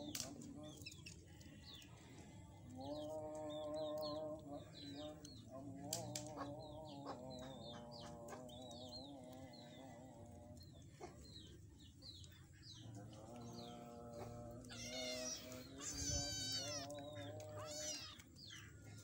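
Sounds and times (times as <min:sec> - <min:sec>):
chick peeping: 0:02.6 - 0:19.0.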